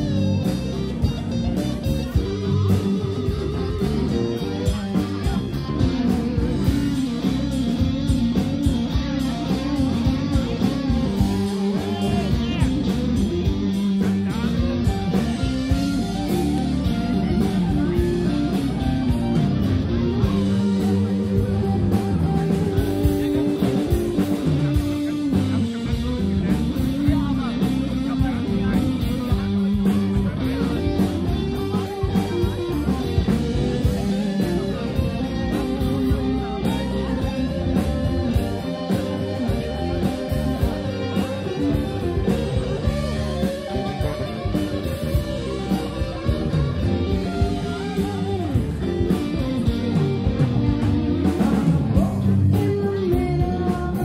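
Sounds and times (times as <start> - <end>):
bass guitar: 0.0 - 54.0
drums: 0.0 - 54.0
electric guitars: 0.0 - 54.0.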